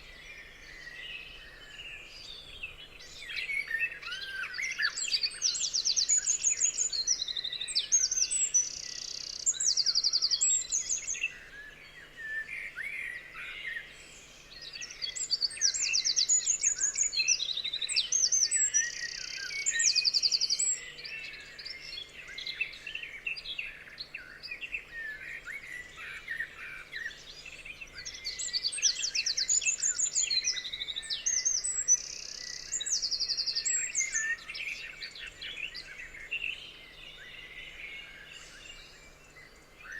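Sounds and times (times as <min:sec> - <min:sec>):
bird song with high trills: 0:00.0 - 0:39.9
chorus of birds chirping: 0:00.0 - 0:39.9.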